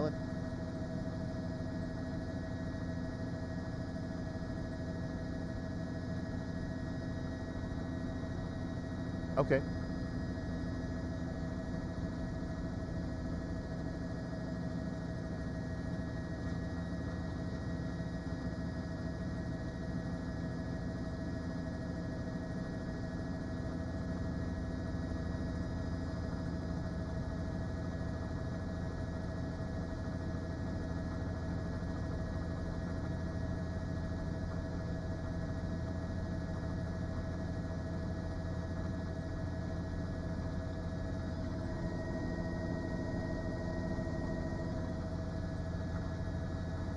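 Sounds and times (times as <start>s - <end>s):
helicopter engine and rotor drone: 0.0s - 46.9s.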